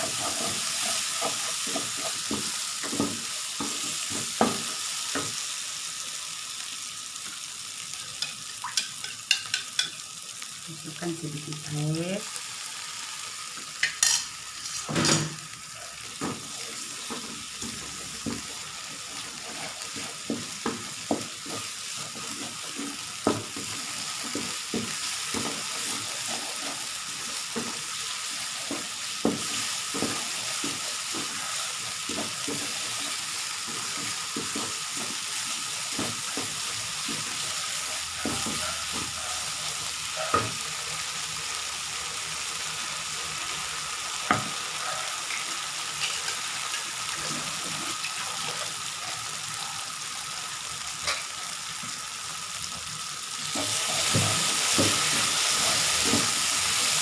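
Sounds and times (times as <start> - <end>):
spice paste sizzling in a pan: 0.0 - 57.0.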